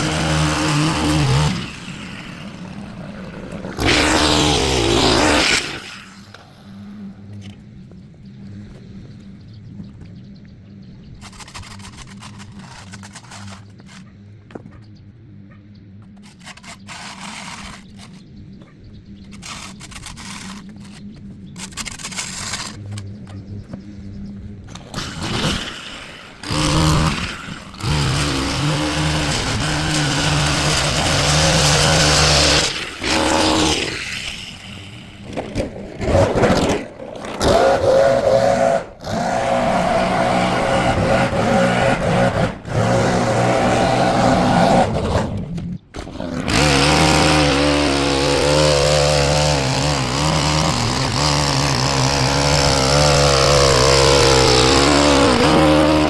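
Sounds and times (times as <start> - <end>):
small petrol engine running: 0.0 - 9.6, 10.7 - 15.4, 16.0 - 56.0.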